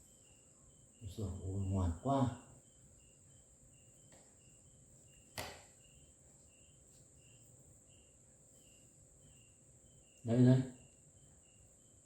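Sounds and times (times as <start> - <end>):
crickets chirping faintly: 0.0 - 12.0.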